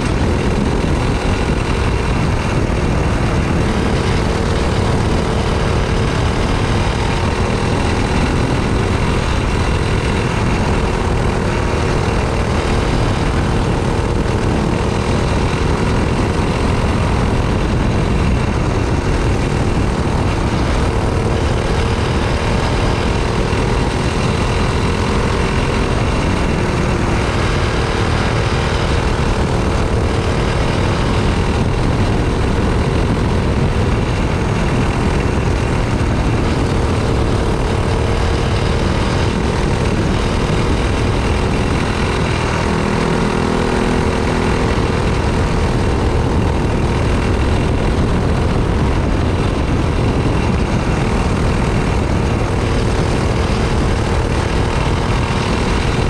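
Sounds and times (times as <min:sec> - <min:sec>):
kart engine running hard: 0:00.0 - 0:56.0
wind and road noise: 0:00.0 - 0:56.0.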